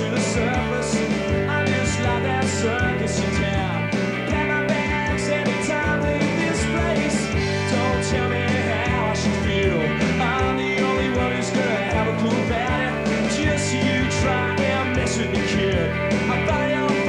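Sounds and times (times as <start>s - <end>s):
live rock band playing: 0.0s - 17.0s
man singing into microphone: 0.0s - 17.0s.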